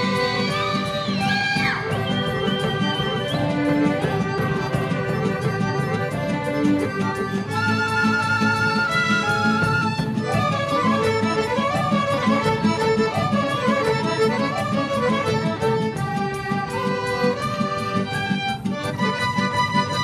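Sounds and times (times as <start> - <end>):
folk band playing dance music: 0.0 - 20.0
violin melody: 0.0 - 20.0.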